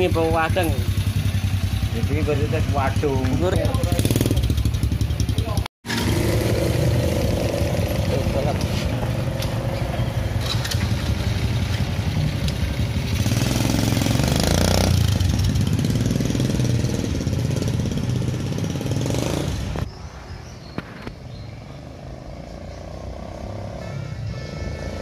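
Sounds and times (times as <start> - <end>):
motorcycle engine revving: 0.0 - 19.9, 21.4 - 25.0.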